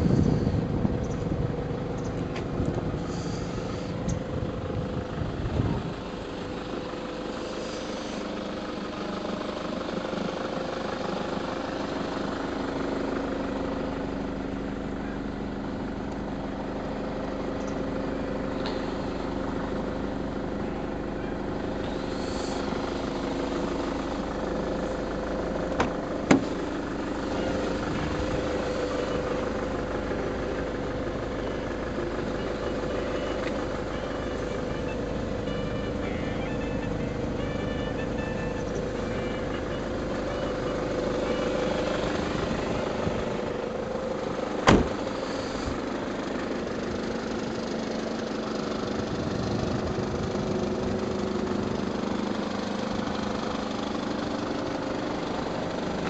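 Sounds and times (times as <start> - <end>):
van engine idling: 0.0 - 56.0.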